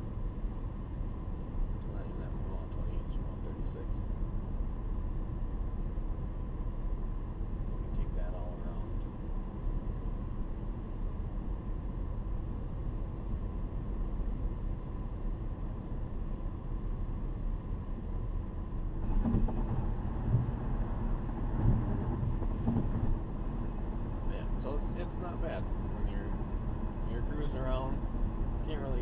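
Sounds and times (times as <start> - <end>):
car exhaust and road rumble: 0.0 - 29.0.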